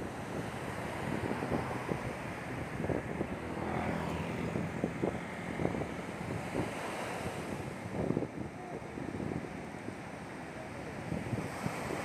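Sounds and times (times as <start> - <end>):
surf washing up a beach: 0.0 - 12.0
wind buffeting microphone: 0.0 - 12.0.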